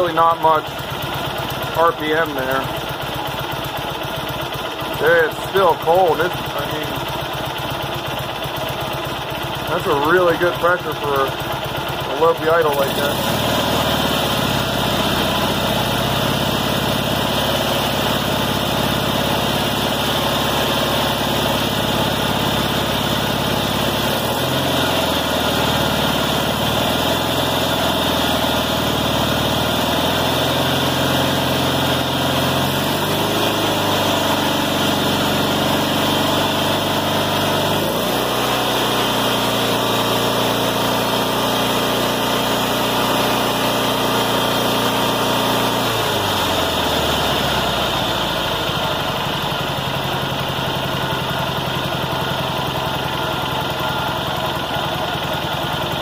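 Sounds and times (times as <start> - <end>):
twin engine idling: 0.0 - 56.0.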